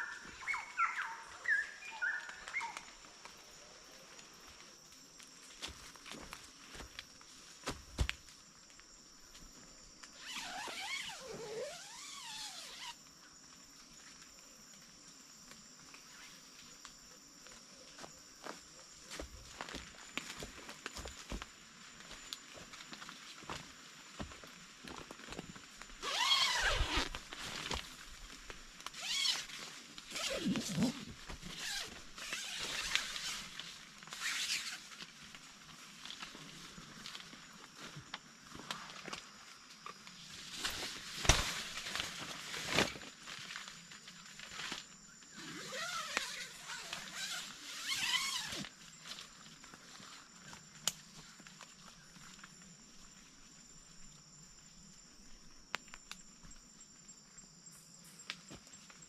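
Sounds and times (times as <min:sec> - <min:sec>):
forest insects droning: 0:00.0 - 0:59.0.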